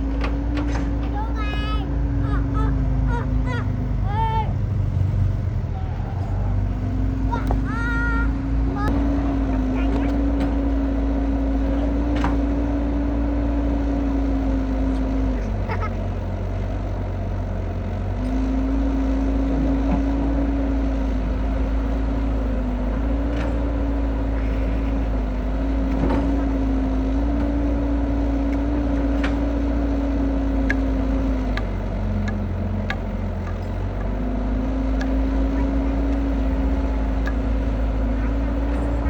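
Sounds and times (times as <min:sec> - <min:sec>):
combine harvester diesel engine: 0:00.0 - 0:39.0.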